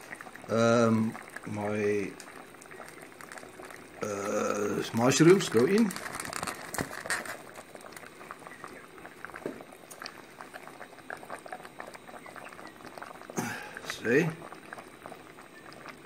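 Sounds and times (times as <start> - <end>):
stew bubbling and popping: 0.0 - 16.0.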